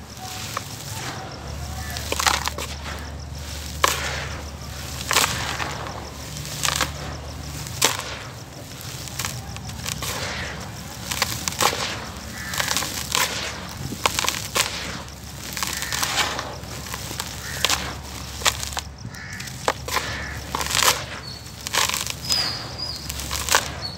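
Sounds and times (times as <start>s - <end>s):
grit crunching and clicking: 0.0s - 23.9s.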